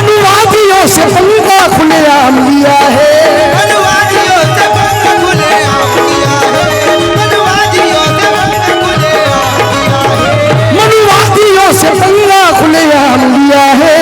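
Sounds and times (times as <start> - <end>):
repeating drum beat: 0.0 - 14.0.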